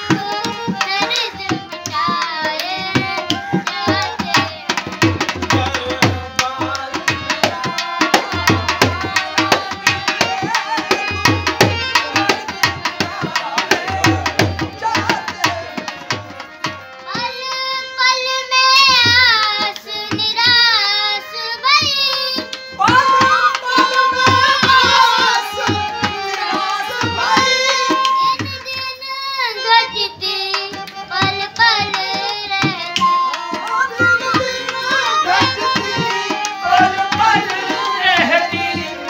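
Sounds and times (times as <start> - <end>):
child singing: 0.0 - 39.0
harmonium: 0.0 - 39.0.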